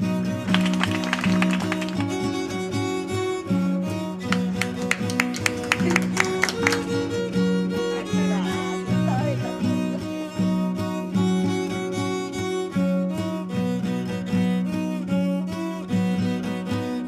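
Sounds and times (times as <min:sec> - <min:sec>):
violin and cello music: 0:00.0 - 0:17.0.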